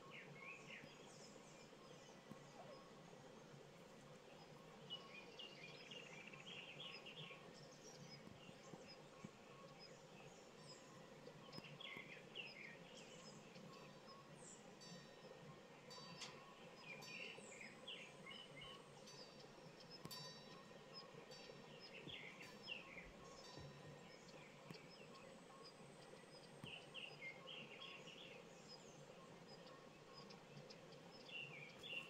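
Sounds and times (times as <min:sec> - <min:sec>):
birds chirping: 0:00.0 - 0:32.0
low steady background hum: 0:00.0 - 0:32.0.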